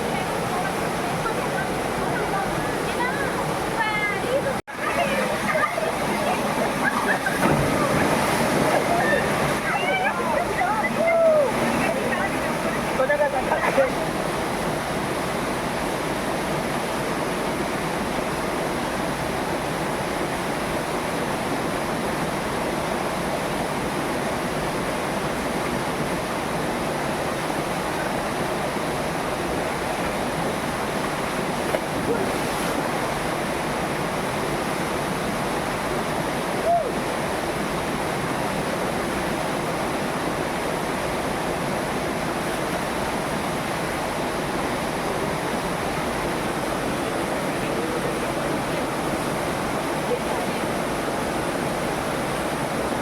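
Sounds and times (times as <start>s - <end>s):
waterfall rushing over rocks: 0.0s - 53.0s.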